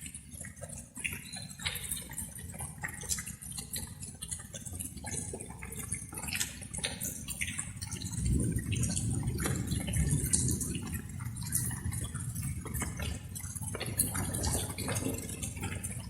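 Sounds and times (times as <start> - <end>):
raindrops dripping and pattering: 0.0 - 16.0
steady rain noise: 0.0 - 16.0.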